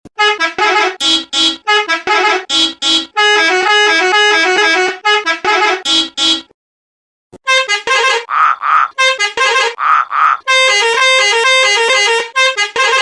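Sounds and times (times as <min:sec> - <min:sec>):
musical bus horn jingle: 0:00.2 - 0:06.5, 0:07.4 - 0:08.3, 0:09.0 - 0:09.8, 0:10.5 - 0:13.0.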